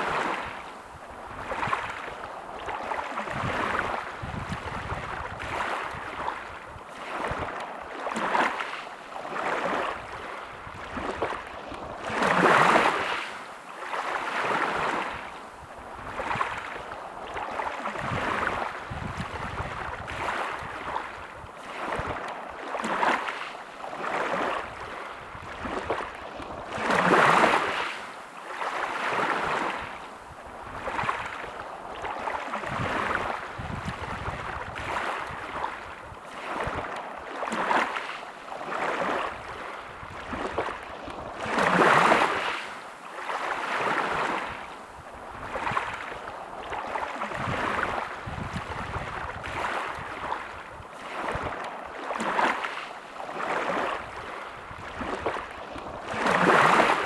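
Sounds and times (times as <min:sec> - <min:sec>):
sea waves washing onto beach: 0:00.0 - 0:57.0.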